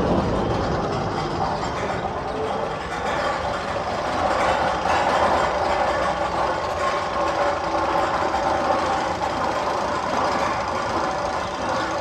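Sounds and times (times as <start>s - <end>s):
steady engine-like rumble: 0.0s - 12.0s.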